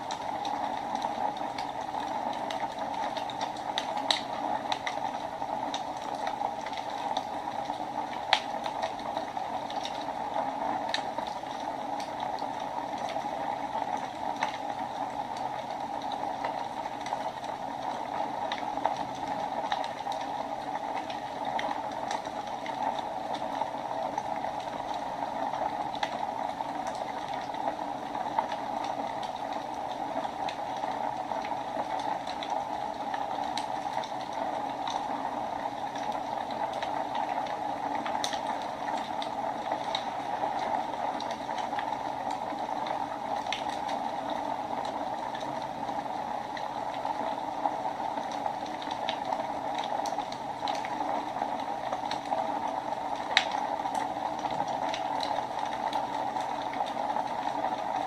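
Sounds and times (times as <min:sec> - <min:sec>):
fire crackles and pops: 0:00.0 - 0:58.0
fire hissing in fireplace: 0:00.0 - 0:58.0.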